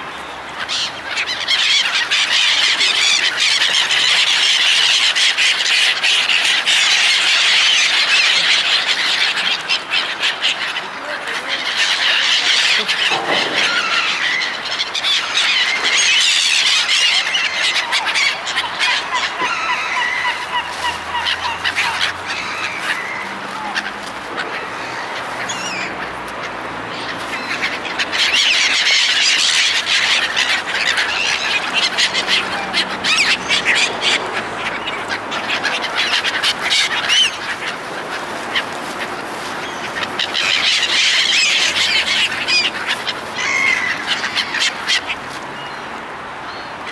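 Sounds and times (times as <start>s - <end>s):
gulls calling: 0.0s - 46.9s.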